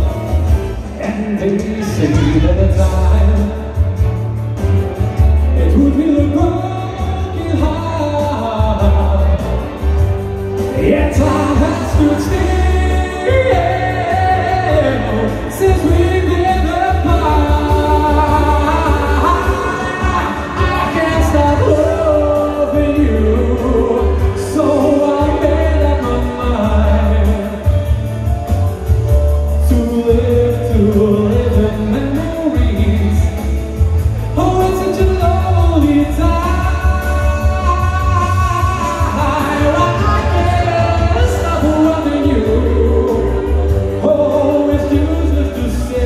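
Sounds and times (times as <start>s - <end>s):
band music with heavy bass: 0.0s - 46.0s
person singing: 0.0s - 46.0s.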